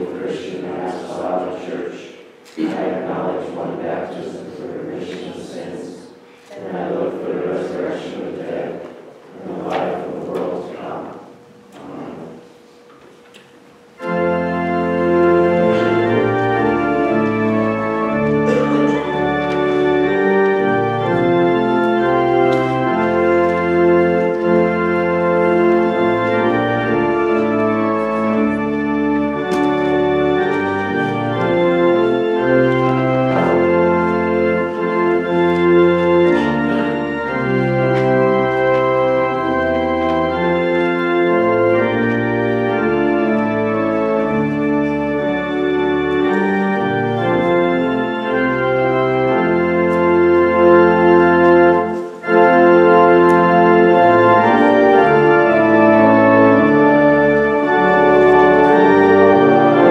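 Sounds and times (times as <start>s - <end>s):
church organ playing hymn: 0.0s - 59.9s.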